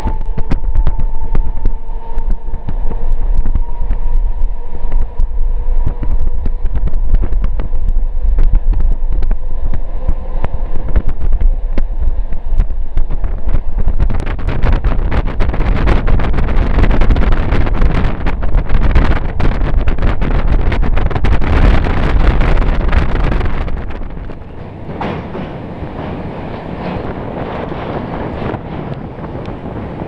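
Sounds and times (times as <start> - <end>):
rattles and clicks: 0.0 - 30.0
train wheels rumbling on rails: 0.0 - 30.0
wind buffeting microphone: 0.0 - 30.0.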